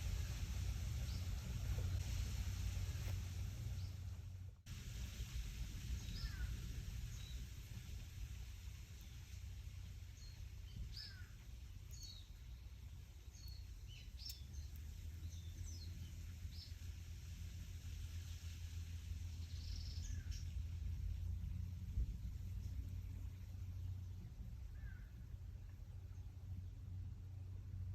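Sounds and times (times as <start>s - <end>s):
leaves rustling: 0.0s - 25.1s.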